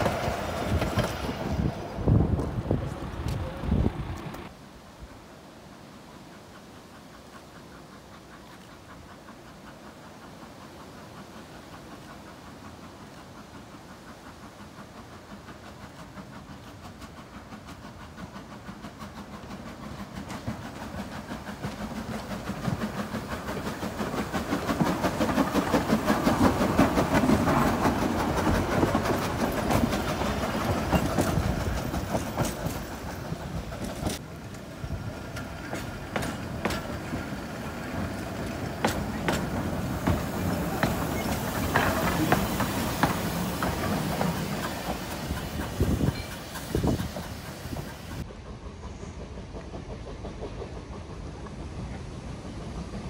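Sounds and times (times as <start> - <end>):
wheels clicking over rail joints: 0.0 - 4.6, 6.1 - 52.0
train passing: 0.0 - 53.0.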